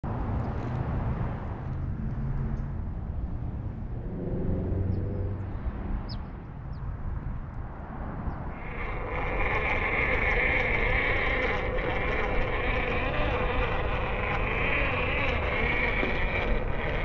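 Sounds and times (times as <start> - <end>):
distant freeway traffic rumble: 0.0 - 17.0
engine hum: 0.0 - 17.0.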